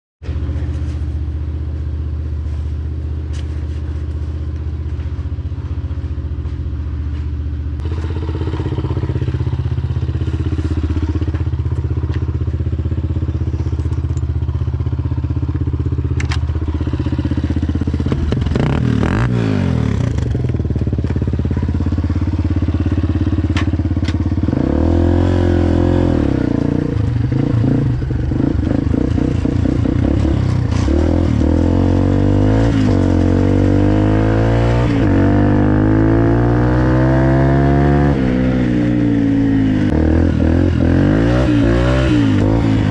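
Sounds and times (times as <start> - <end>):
dirt bike engine idling and revving: 0.2 - 42.9.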